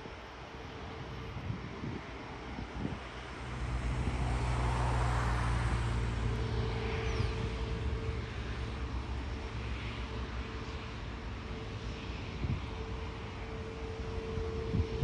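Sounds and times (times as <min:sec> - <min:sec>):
jet engines droning with whine: 0:00.0 - 0:15.0.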